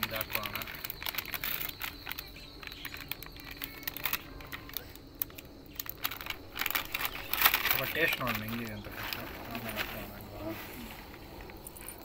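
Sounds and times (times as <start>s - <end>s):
vegetables clicking and crinkling: 0.0s - 10.3s.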